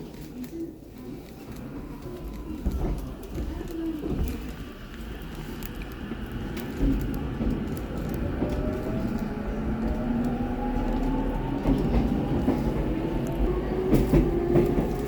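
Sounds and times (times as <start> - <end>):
train rumble and wheel noise: 0.0 - 15.0.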